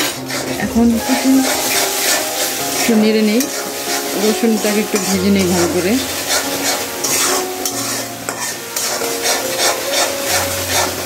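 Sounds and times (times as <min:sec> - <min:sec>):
metal spatula scraping pan: 0:00.0 - 0:11.0
onions sizzling in hot oil: 0:00.0 - 0:11.0.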